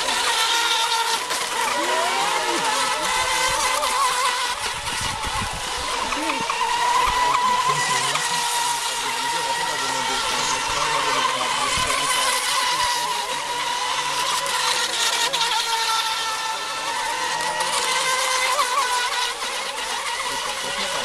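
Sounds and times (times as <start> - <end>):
motor and propeller whine: 0.0 - 21.0.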